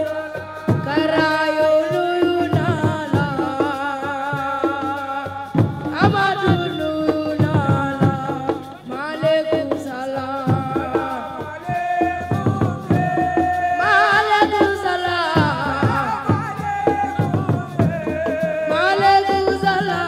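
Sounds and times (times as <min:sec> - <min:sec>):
hand drum percussion: 0:00.0 - 0:20.0.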